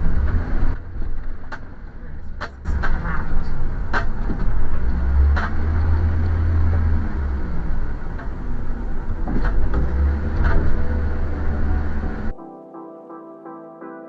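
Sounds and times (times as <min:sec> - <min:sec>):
road and engine rumble: 0:00.0 - 0:12.4.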